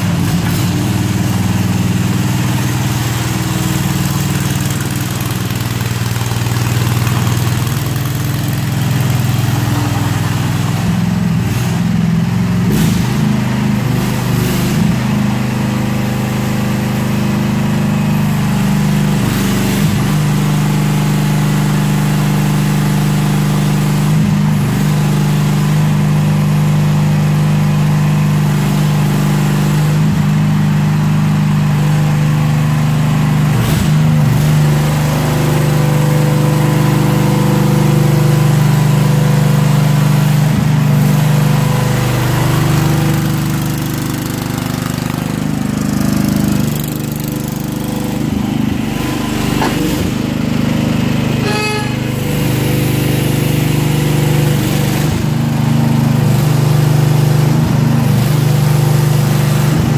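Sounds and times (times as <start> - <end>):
small excavator engine running: 0.0 - 59.9.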